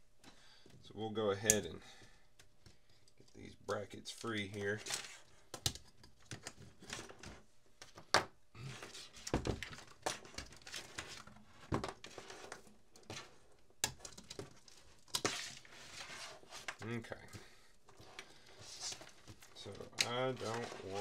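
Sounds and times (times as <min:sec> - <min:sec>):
wires rustling and clicking: 0:00.0 - 0:21.0.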